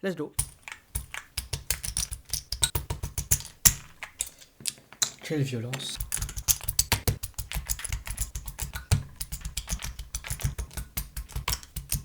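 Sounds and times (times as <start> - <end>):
plastic keycap clicks: 0.4 - 12.0.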